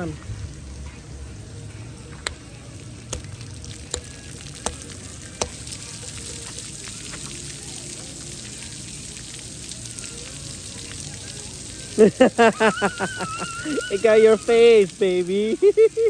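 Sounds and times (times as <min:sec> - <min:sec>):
water jets spraying: 0:00.0 - 0:16.0.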